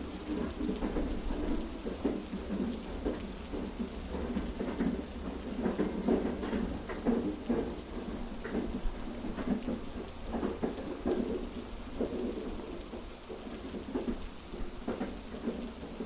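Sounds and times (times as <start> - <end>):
heavy rain: 0.0 - 16.0
train wheels clacking on track: 0.0 - 16.0.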